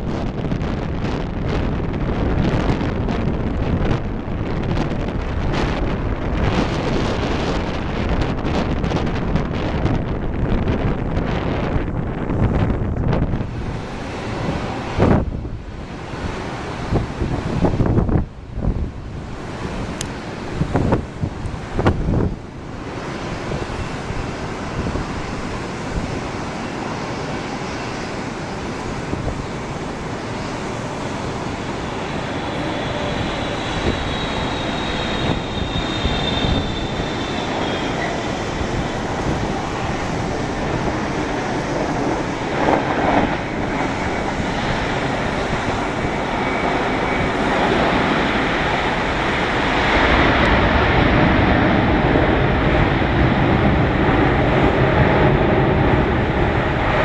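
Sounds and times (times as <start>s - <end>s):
high engine whine: 0.0s - 57.0s
jet engine roar: 0.0s - 57.0s.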